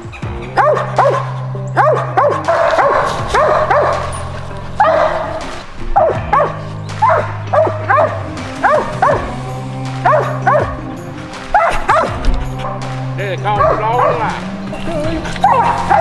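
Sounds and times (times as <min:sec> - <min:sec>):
background music with low notes: 0:00.0 - 0:16.0
dog barking: 0:00.5 - 0:09.4, 0:10.0 - 0:10.9, 0:11.5 - 0:12.9, 0:13.6 - 0:16.0.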